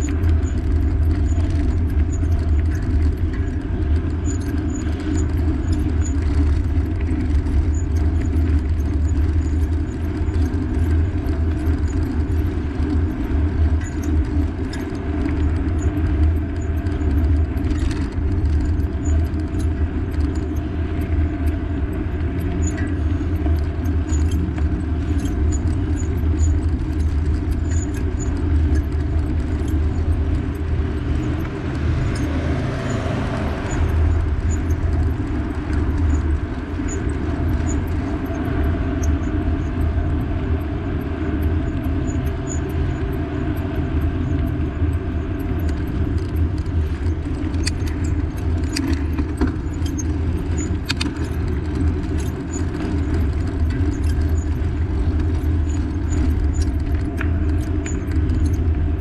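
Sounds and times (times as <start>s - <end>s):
faint regular ticking: 0.0s - 59.0s
road riding rumble: 0.0s - 59.0s
wind on microphone: 0.0s - 59.0s.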